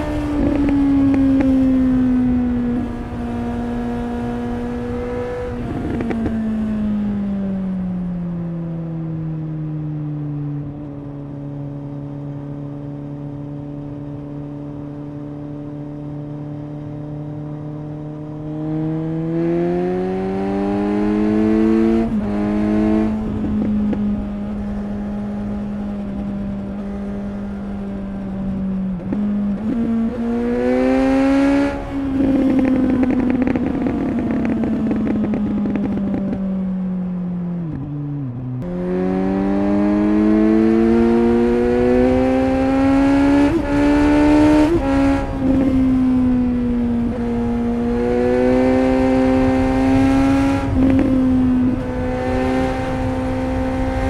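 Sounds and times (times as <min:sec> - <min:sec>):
motorcycle engine revving: 0:00.0 - 0:08.5, 0:10.9 - 0:54.0.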